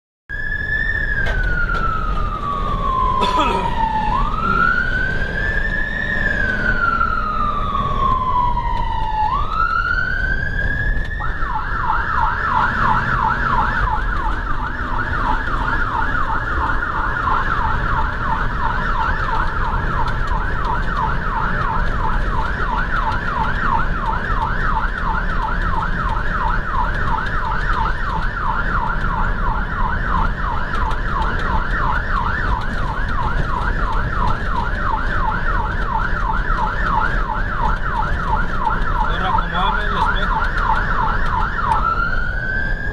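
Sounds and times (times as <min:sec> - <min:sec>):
electronic siren wailing and yelping: 0:00.3 - 0:42.9
vehicle engine and road rumble: 0:00.3 - 0:42.9.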